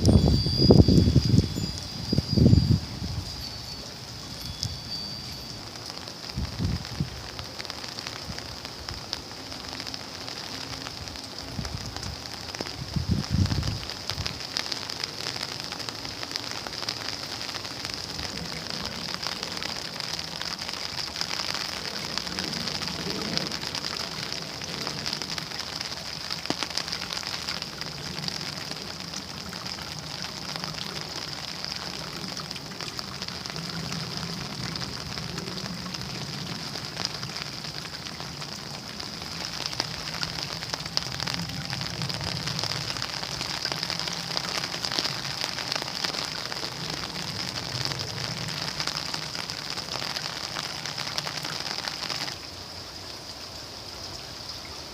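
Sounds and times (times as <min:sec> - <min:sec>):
rain hissing: 0:00.0 - 0:54.9
raindrops ticking on a surface: 0:00.0 - 0:54.9.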